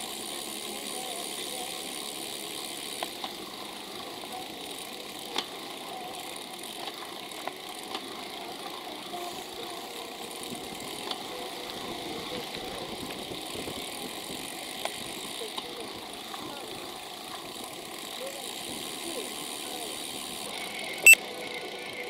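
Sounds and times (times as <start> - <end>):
bicycle clicks and rattles: 0.0 - 22.0
road and wind noise: 0.0 - 22.0.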